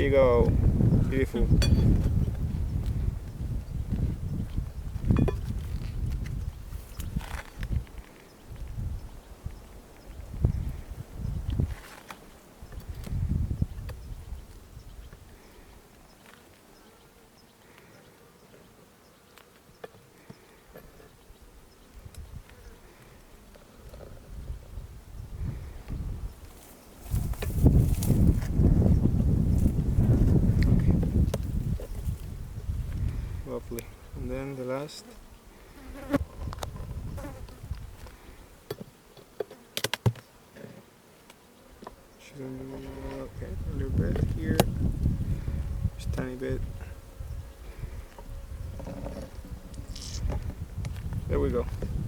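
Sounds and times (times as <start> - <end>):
honeybees buzzing: 6.0 - 51.3.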